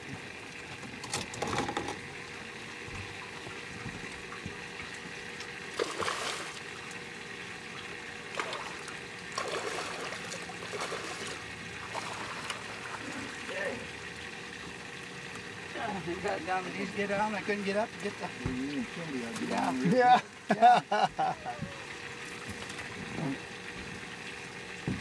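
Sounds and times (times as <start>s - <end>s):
faint steady hum: 0.0s - 25.0s
water trickling and splashing: 0.0s - 25.0s.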